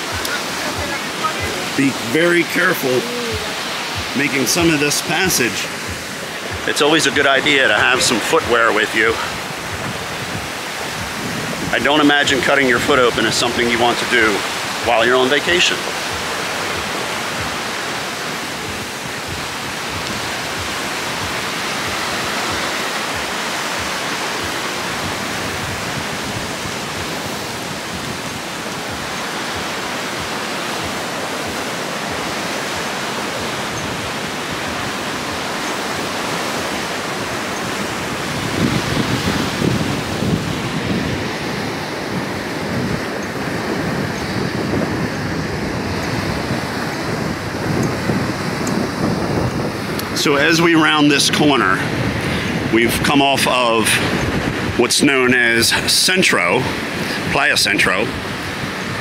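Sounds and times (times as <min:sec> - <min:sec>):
surf breaking on beach: 0:00.0 - 0:59.0
wind: 0:00.0 - 0:59.0
wind buffeting microphone: 0:00.0 - 0:59.0.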